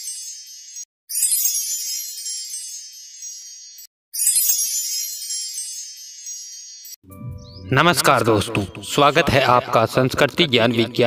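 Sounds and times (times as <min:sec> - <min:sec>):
shimmering wind chime: 0:00.0 - 0:09.3.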